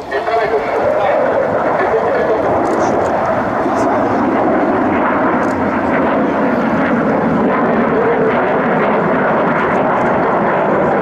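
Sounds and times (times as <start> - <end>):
jet engine rumble overhead: 0.0 - 11.0.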